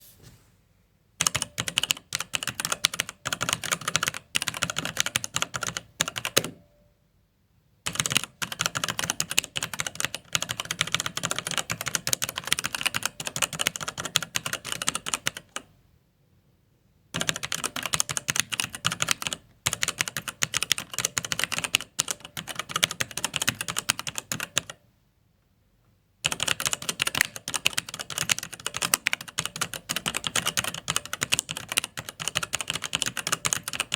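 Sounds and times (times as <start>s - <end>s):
computer keyboard typing: 1.2s - 6.6s, 7.9s - 15.7s, 17.2s - 24.8s, 26.2s - 33.9s.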